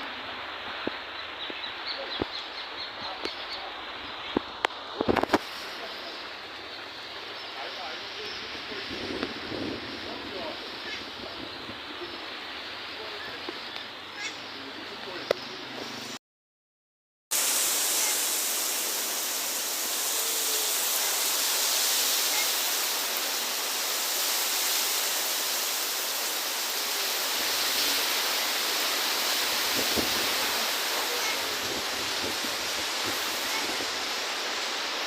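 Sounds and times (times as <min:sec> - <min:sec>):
strong wind and rain: 0:00.0 - 0:16.2, 0:17.3 - 0:35.0.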